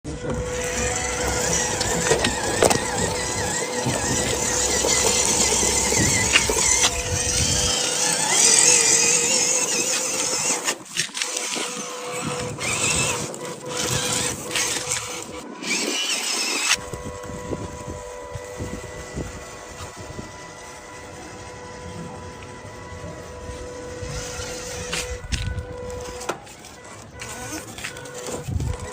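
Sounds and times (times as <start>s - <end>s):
model car motor whining: 0.1s - 28.9s.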